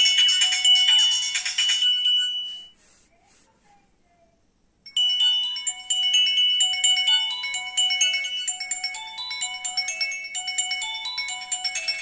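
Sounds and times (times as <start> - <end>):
mobile phone polyphonic ringtone: 0.0 - 2.8, 4.9 - 12.0.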